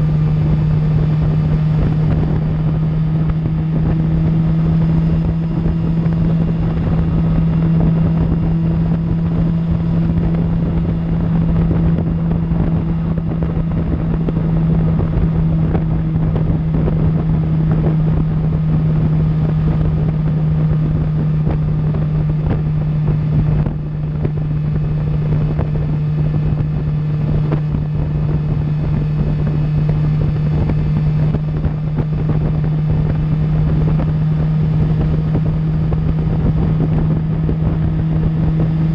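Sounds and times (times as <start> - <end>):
motorcycle engine cruising: 0.0 - 38.9
wind noise: 0.0 - 38.9.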